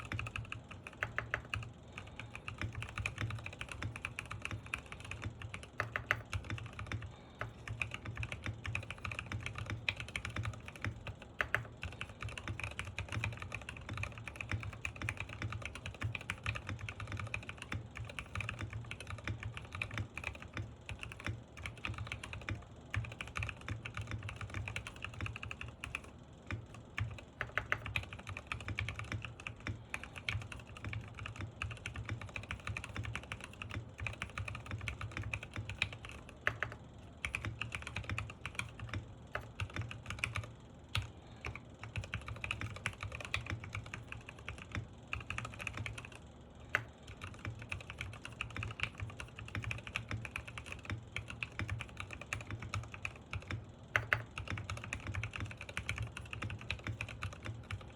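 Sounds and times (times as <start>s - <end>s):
fast typing on mechanical keyboard: 0.0s - 57.9s.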